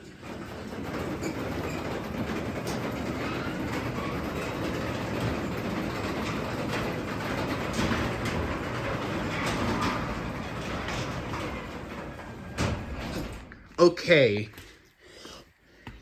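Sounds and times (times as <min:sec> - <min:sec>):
garage door opener motor rumble: 0:00.0 - 0:13.8
door rolling in tracks: 0:00.0 - 0:14.1.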